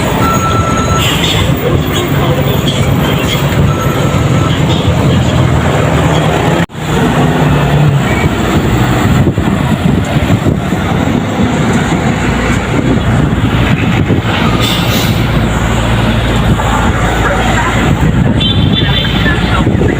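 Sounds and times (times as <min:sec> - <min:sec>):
truck diesel engine rumble: 0:00.0 - 0:19.9
tyre and road noise: 0:00.0 - 0:19.9.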